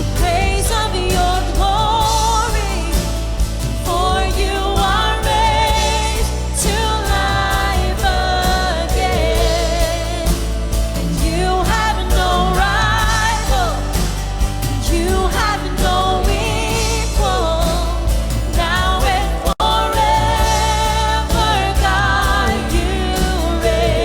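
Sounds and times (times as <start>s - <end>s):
people singing: 0.0s - 24.0s
worship band playing: 0.0s - 24.0s.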